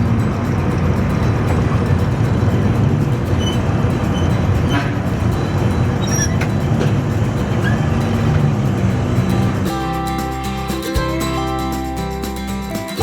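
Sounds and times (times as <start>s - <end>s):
road vehicle rumbling: 0.0s - 13.0s.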